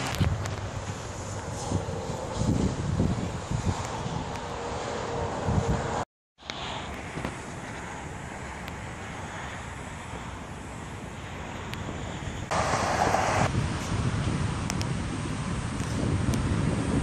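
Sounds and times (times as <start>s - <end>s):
wind buffeting microphone: 0.0s - 6.0s, 6.6s - 17.0s.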